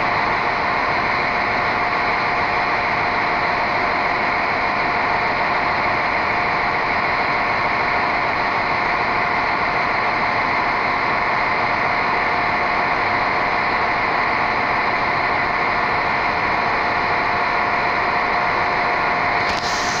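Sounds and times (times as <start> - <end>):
diesel train engine idling: 0.0 - 20.0
thin steady whine: 0.0 - 20.0.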